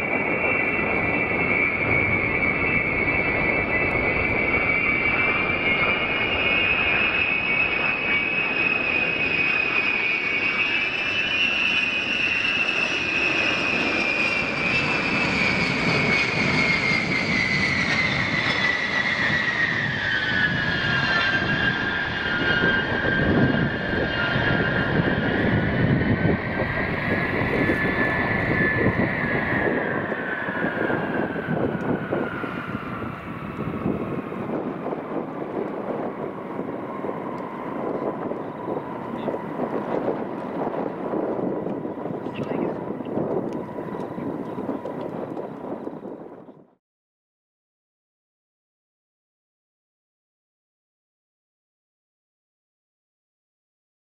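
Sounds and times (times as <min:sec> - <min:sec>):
jet engines whining: 0:00.0 - 0:46.8.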